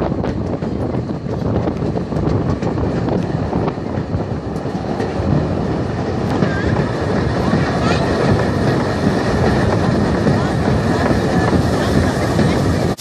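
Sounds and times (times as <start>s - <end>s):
moving train rumble: 0.0s - 13.0s.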